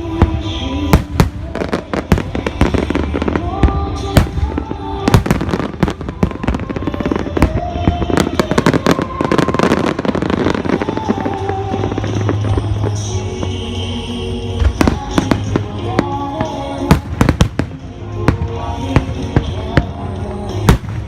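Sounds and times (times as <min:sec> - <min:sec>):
fireworks bursting and crackling: 0:00.0 - 0:21.0
music over loudspeakers: 0:00.0 - 0:21.0.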